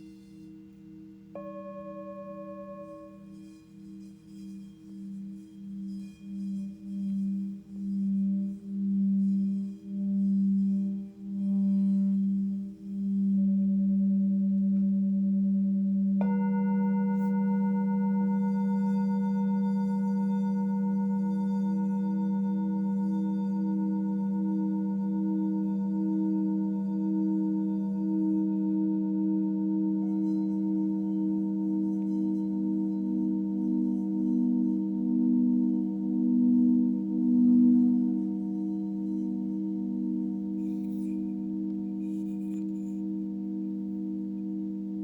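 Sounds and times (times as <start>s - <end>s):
low singing bowl humming: 0.0s - 45.0s
higher singing bowl ringing: 1.3s - 15.4s, 16.0s - 45.0s.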